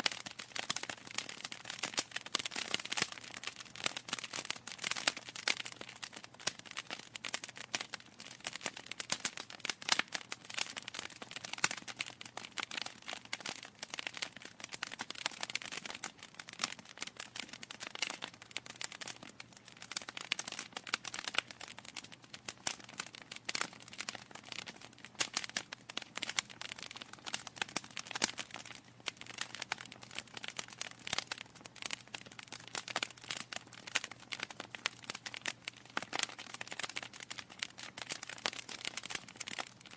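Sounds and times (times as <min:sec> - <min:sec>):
burning logs crackling and popping: 0:00.0 - 0:39.9.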